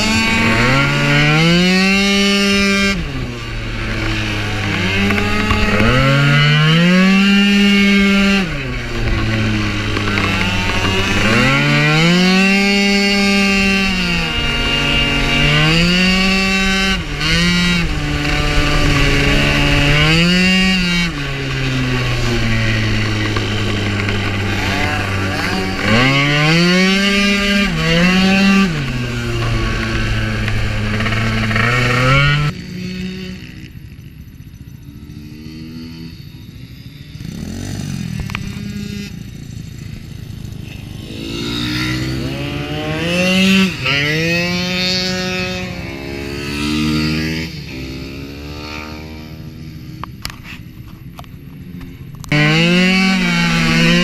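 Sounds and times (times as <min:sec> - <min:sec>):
scooter engine revving: 0:00.0 - 0:33.9, 0:37.2 - 0:54.0.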